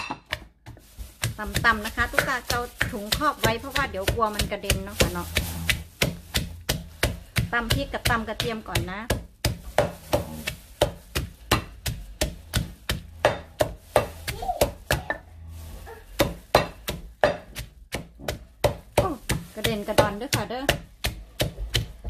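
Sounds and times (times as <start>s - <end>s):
pestle pounding in mortar: 0.0s - 22.0s.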